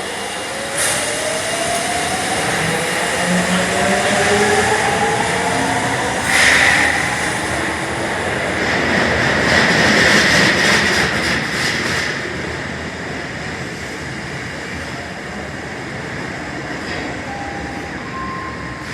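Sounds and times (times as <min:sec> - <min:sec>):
subway train rumble: 0:00.0 - 0:18.9
train wheel and track clatter: 0:00.0 - 0:18.9.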